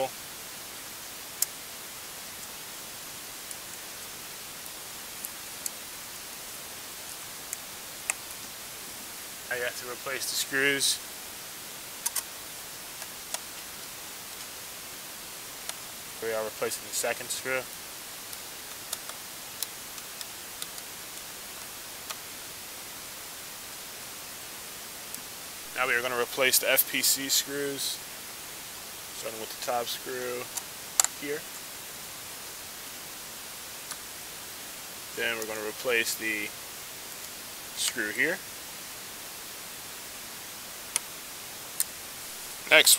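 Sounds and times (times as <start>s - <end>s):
background recording hiss: 0.0s - 42.9s.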